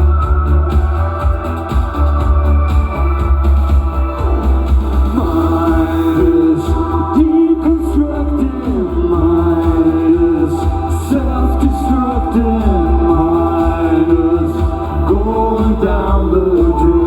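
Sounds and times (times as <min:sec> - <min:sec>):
heavy steady bass: 0:00.0 - 0:17.0.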